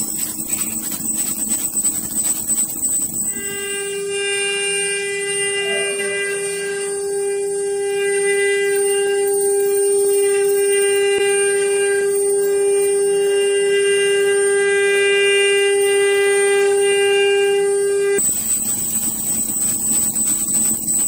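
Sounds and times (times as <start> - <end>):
router spindles high whine: 0.0 - 21.0.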